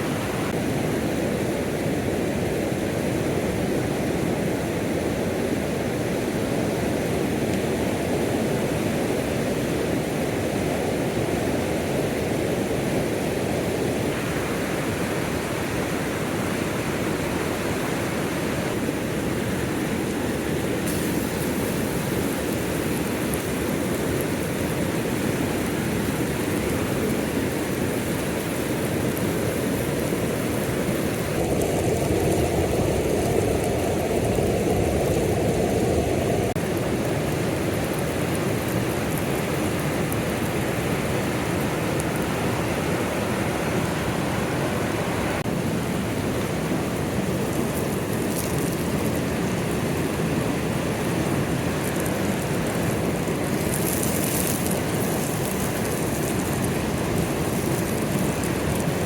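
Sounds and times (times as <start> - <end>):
steady rushing noise: 0.0 - 3.6, 4.4 - 59.0.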